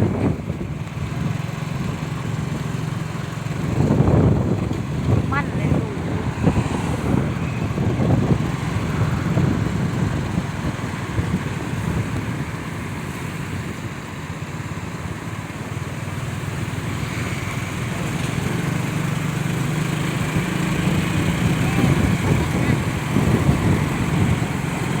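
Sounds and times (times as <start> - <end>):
background rushing noise: 0.0 - 25.0.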